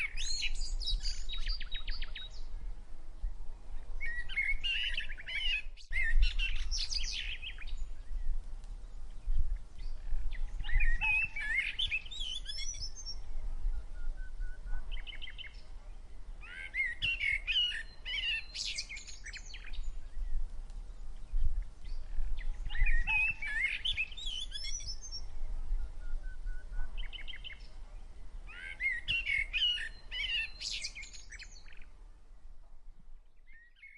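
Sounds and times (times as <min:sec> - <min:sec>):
songbird singing warbled phrases: 0:00.0 - 0:02.6, 0:04.0 - 0:08.3, 0:09.2 - 0:20.4, 0:21.2 - 0:32.0, 0:33.2 - 0:33.9.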